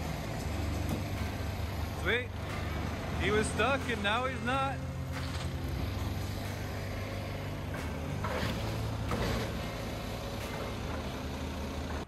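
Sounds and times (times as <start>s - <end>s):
diesel machinery running: 0.0s - 12.0s.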